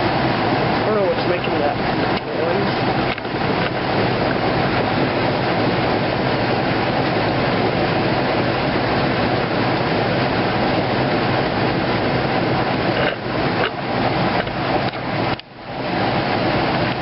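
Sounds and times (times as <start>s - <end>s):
washing machine rumbling: 0.0s - 17.0s.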